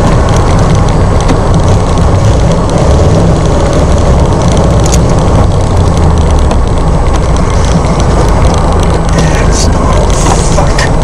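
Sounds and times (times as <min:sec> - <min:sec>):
engine low drone inside cab: 0:00.0 - 0:11.0.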